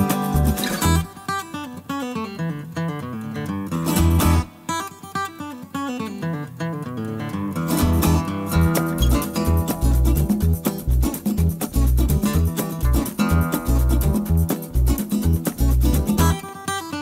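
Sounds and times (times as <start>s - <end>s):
plucked acoustic guitar: 0.0s - 17.0s.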